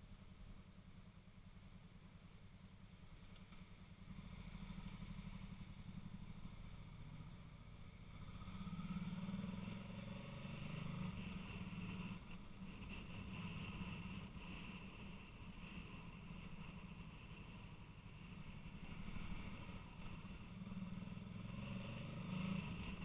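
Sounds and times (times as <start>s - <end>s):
muffled motorcycle engine: 0.0s - 23.0s.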